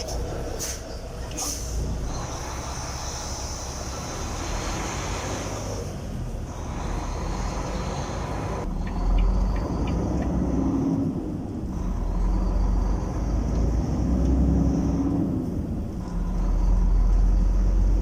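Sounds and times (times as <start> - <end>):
diesel truck engine rumble: 0.0 - 18.0.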